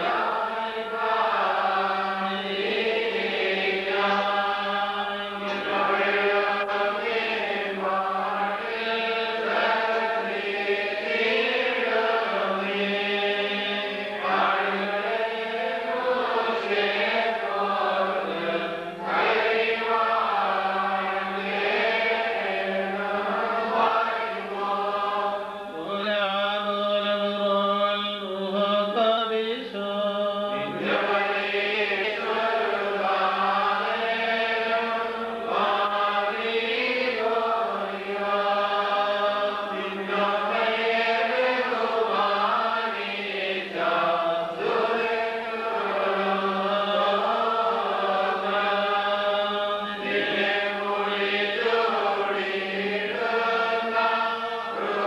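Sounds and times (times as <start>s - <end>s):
voices singing chant: 0.0s - 55.0s.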